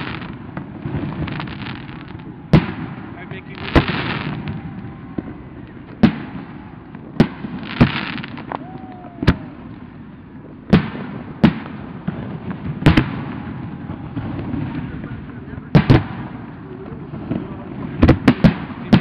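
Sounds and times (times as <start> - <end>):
crackling hiss: 0.0 - 19.0
firework shells booming: 0.0 - 19.0.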